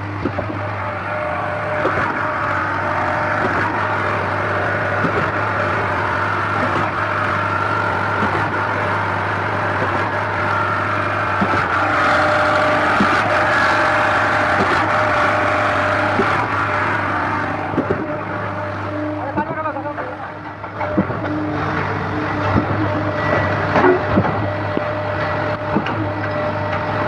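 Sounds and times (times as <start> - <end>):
concrete pump engine drone: 0.0 - 27.0.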